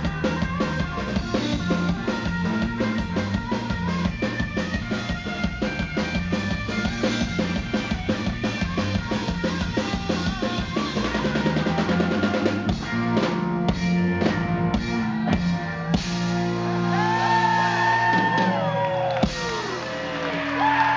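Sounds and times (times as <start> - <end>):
drum kit: 0.0 - 20.9
electric bass: 0.0 - 20.9
electric guitar: 0.0 - 20.9.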